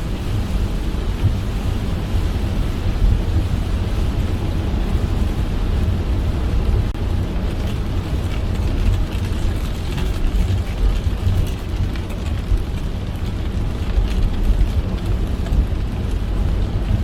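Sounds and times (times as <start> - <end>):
rain hitting car: 0.0 - 17.0
tyres rumbling on wet road: 0.0 - 17.0.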